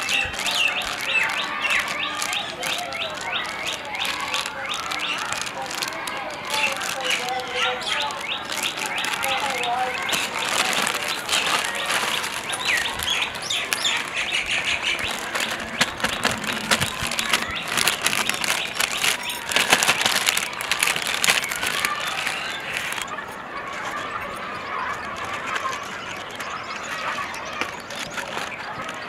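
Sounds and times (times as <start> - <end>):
plastic sheet crinkling: 0.0 - 29.0.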